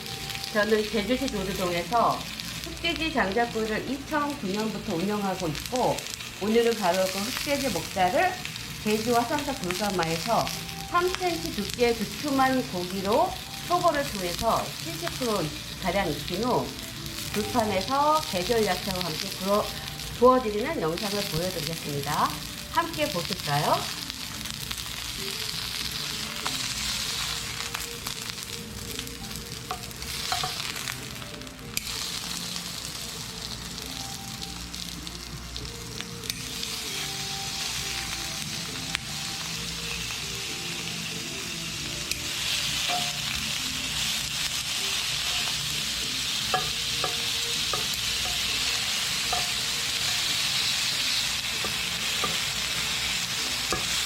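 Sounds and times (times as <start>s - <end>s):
meat sizzling: 0.0s - 54.0s
quiet background music: 0.0s - 54.0s.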